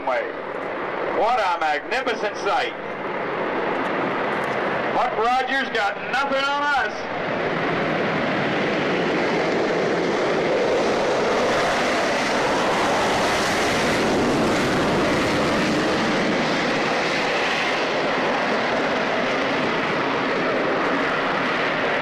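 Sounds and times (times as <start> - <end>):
jet aircraft roar at takeoff: 0.0 - 22.0.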